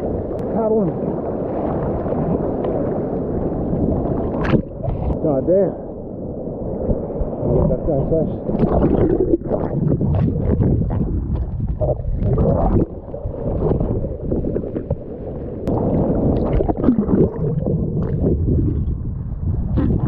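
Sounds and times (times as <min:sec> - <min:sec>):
muffled surf water sloshing: 0:00.0 - 0:20.0.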